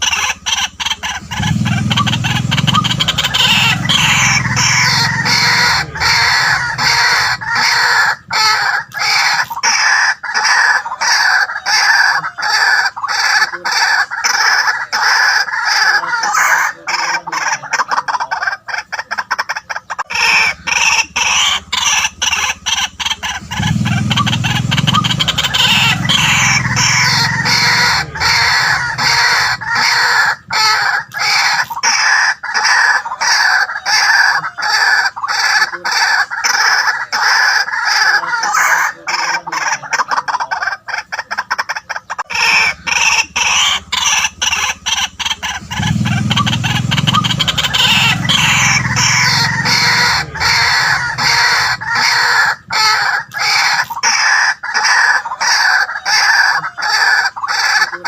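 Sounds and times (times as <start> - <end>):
waterhen calling: 0.0 - 58.0.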